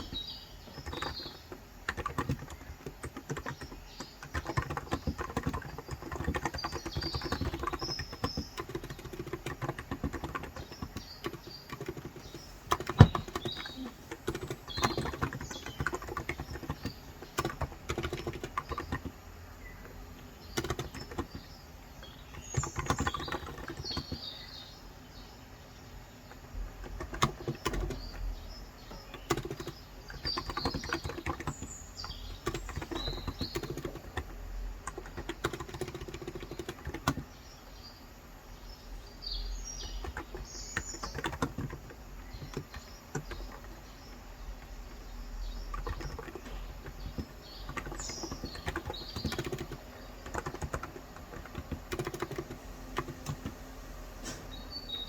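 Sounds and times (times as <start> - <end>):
keyboard typing: 0.0 - 24.7, 26.3 - 37.4, 39.2 - 55.0
birds chirping: 0.0 - 55.0.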